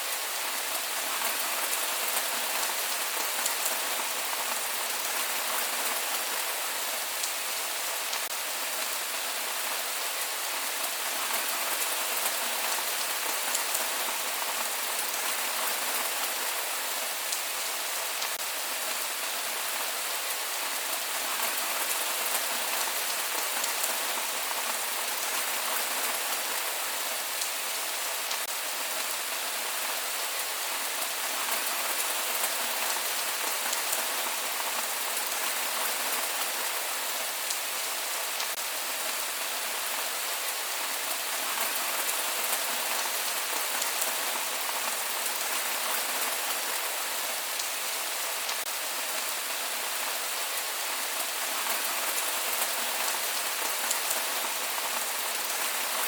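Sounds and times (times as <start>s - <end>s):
steady rain pattering: 0.0s - 56.0s.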